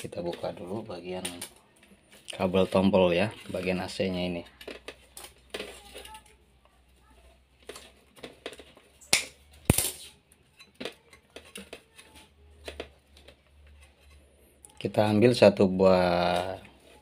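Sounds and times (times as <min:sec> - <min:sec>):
wires and small tools handled: 0:00.0 - 0:17.0.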